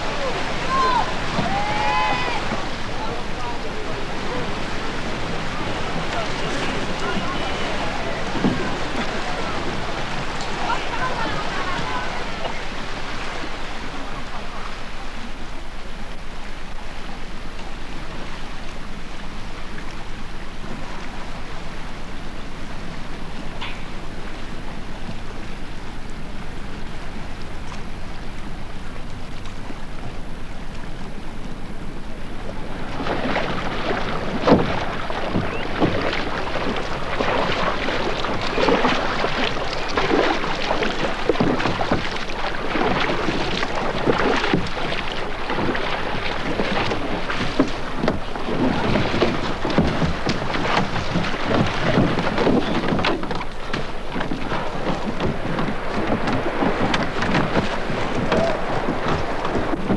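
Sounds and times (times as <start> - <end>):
tape hiss: 0.0 - 48.4
low hum: 0.0 - 59.9
paddles splashing in choppy water: 0.0 - 59.9.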